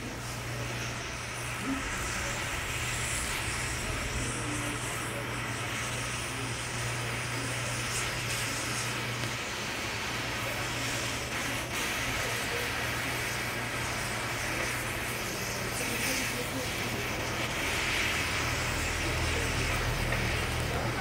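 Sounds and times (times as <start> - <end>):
electrical arcing hissing rush: 0.0 - 21.0
low mains buzz: 0.0 - 21.0.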